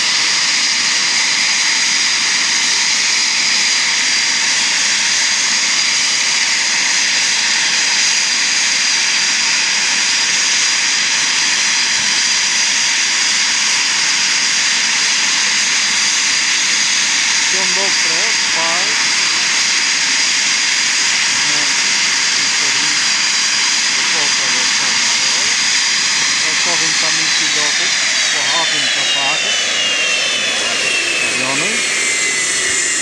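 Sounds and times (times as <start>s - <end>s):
high-pitched jet whine: 0.0s - 33.0s
jet engines idling: 0.0s - 33.0s.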